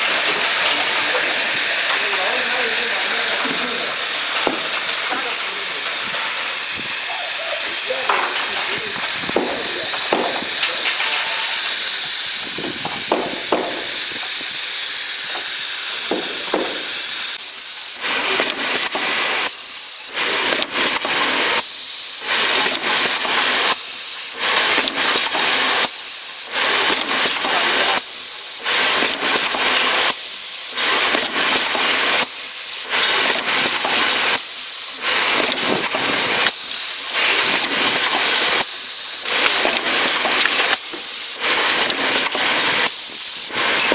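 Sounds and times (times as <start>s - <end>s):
filling machine hissing: 0.0s - 43.9s.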